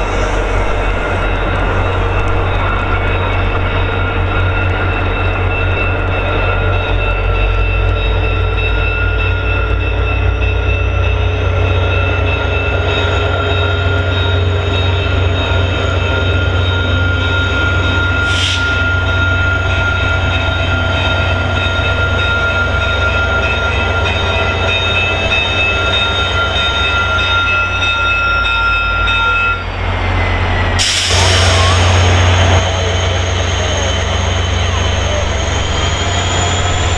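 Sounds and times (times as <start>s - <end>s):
diesel locomotive rumble: 0.0s - 36.9s.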